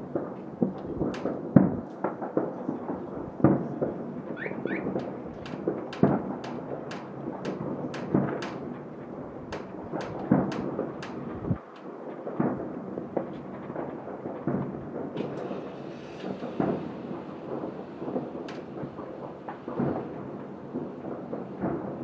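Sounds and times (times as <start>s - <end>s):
firework booms: 0.0s - 22.0s
firework cracks and pops: 0.0s - 22.0s.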